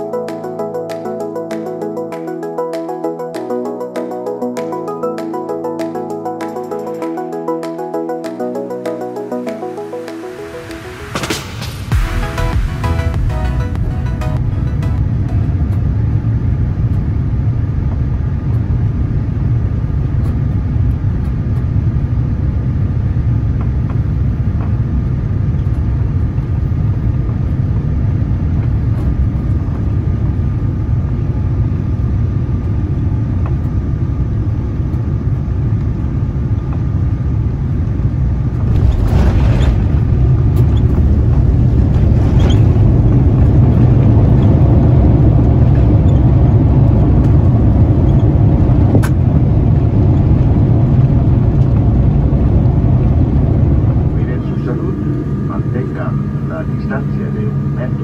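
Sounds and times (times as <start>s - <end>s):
aircraft engine and airflow rumble: 0.0s - 58.0s.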